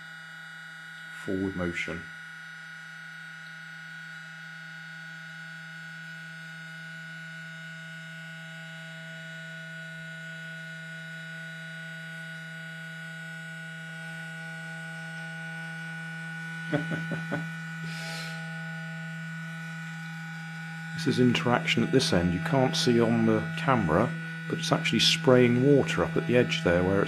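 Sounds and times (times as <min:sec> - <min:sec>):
vibration motor buzzing: 0:00.0 - 0:27.0.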